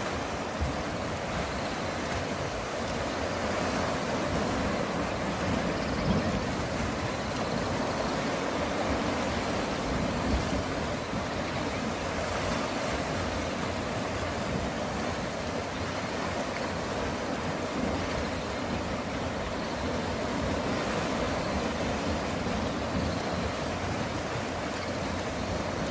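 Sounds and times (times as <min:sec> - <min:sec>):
waves washing on rocky shore: 0:00.0 - 0:25.9.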